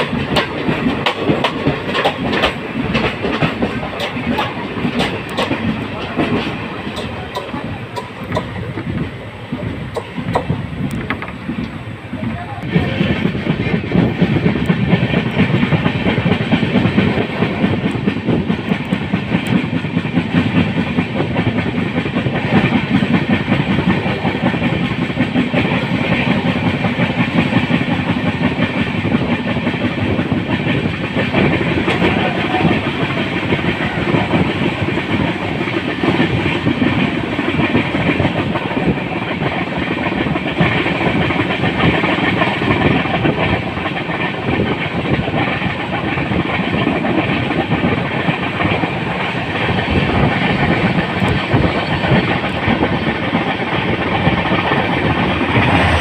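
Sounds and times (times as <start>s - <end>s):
train rumbling and rattling: 0.0s - 56.0s
train wheels clattering: 0.0s - 56.0s.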